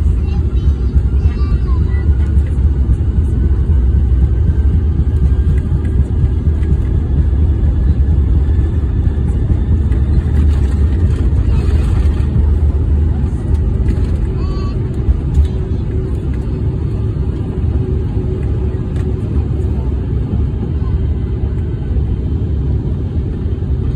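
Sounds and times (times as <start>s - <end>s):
jet engines roaring in cabin: 0.0s - 23.9s.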